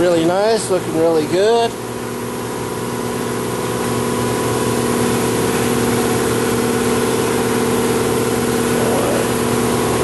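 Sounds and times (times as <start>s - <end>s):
machine engine drone: 0.0s - 10.0s.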